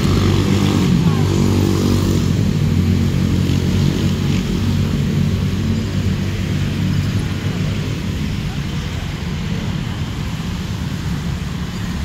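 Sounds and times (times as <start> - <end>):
street traffic: 0.0 - 12.0
vehicle engine humming: 0.0 - 12.0.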